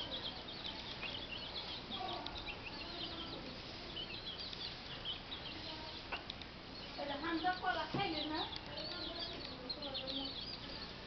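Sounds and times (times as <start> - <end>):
chickens chirping: 0.0 - 11.0
chickens clucking: 0.0 - 11.0.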